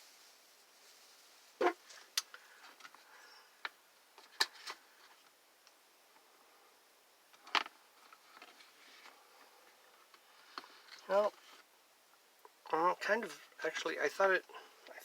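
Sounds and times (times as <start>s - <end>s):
faint scraping and rustling: 0.0s - 5.4s, 6.2s - 11.8s, 12.4s - 15.0s.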